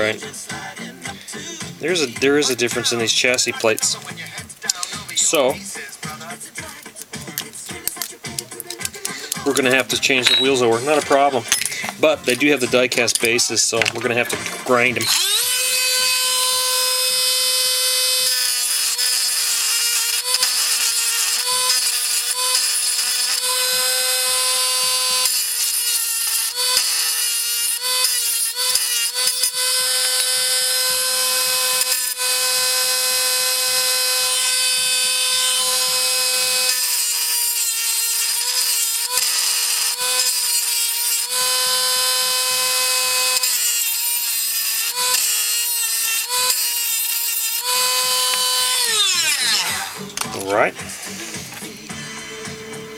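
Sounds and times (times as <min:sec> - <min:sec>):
rotary tool grinding metal: 0:00.0 - 0:51.8.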